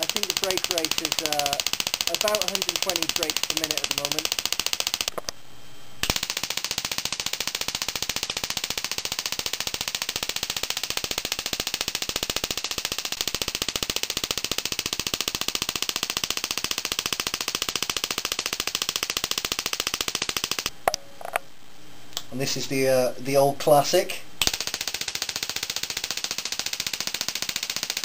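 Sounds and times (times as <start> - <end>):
tesla coil spark gap crackling: 0.0 - 5.4, 6.0 - 22.9, 23.9 - 28.0.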